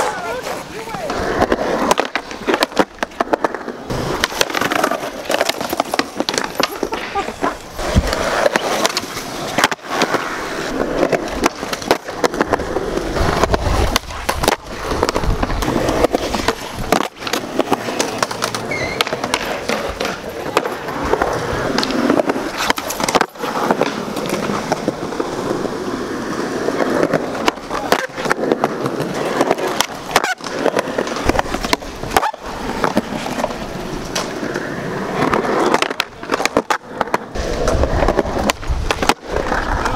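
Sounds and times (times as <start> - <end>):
skateboard clacking on ground: 0.0 - 39.9
skateboard wheels rolling on concrete: 0.0 - 39.9.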